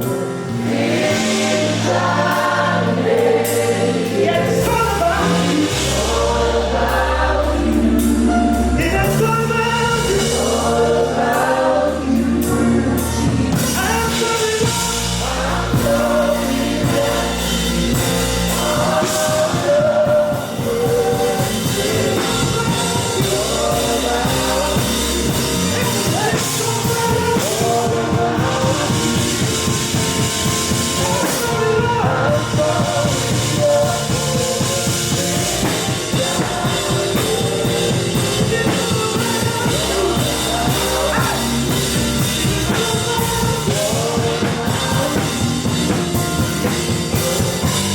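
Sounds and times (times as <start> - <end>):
band playing worship music: 0.0 - 47.9
voices singing: 0.0 - 47.9.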